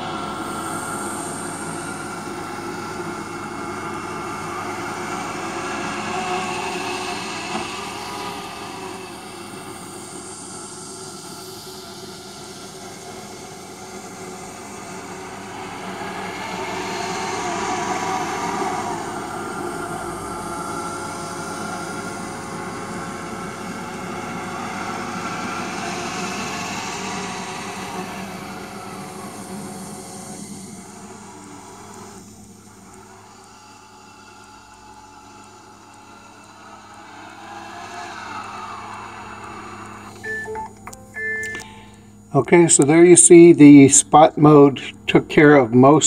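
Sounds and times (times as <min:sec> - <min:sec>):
robot vacuum whirring: 0:00.0 - 0:41.8.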